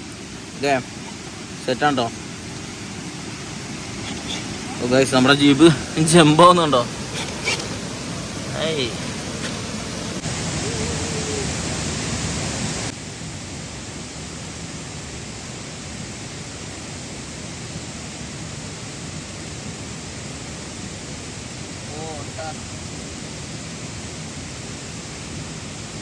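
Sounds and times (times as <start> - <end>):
flowing water hiss: 0.0 - 26.0.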